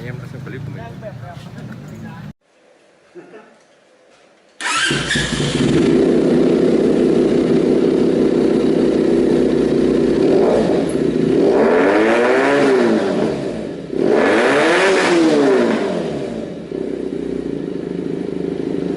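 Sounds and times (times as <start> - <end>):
motorcycle engine idling and revving: 0.0 - 2.3, 4.6 - 18.9.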